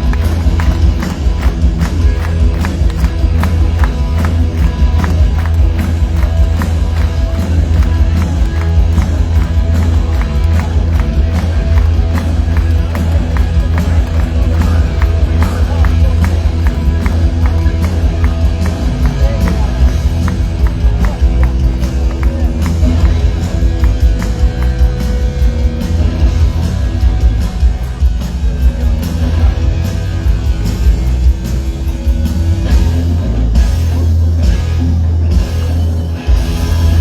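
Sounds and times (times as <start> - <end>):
booming bass: 0.0 - 37.0
crowd noise: 0.0 - 37.0
punk rock band playing live: 0.0 - 37.0.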